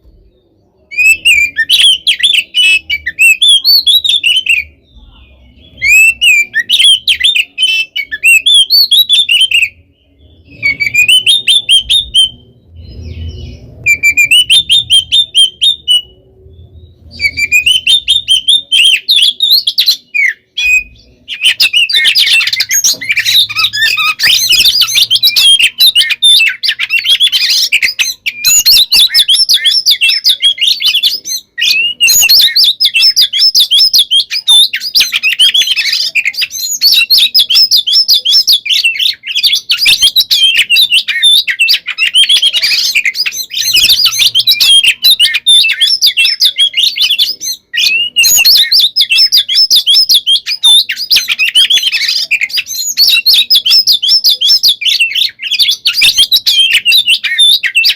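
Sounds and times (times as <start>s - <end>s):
magpie-robin singing whistles and chatter: 0.0s - 57.9s.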